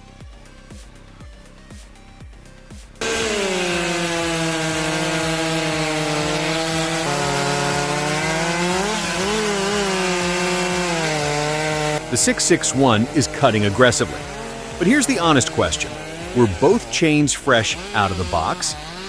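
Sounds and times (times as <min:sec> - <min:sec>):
chainsaw cutting wood: 0:02.6 - 0:19.0.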